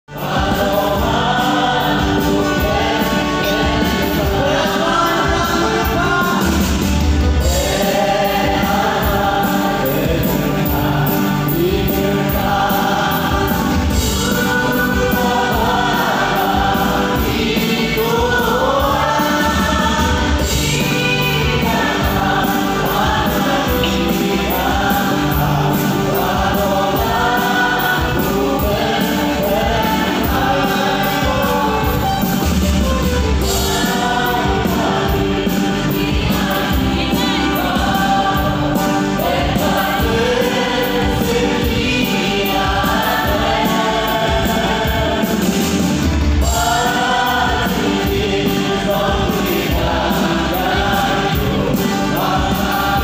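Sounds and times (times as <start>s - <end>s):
choir singing a hymn: 0.1s - 53.0s.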